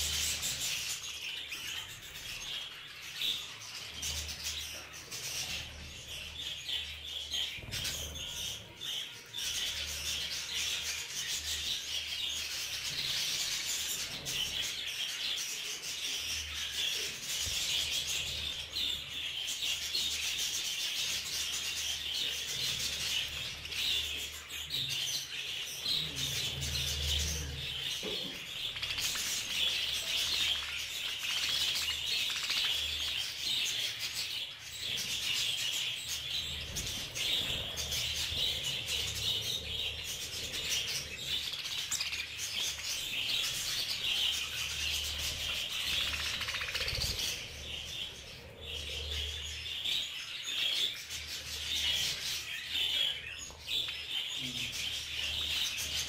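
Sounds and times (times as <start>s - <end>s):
budgerigars chattering and chirping: 0.0s - 56.0s.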